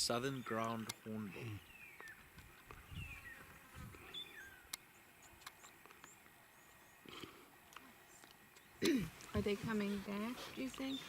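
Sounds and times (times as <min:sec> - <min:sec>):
small birds calling: 0:00.0 - 0:11.0.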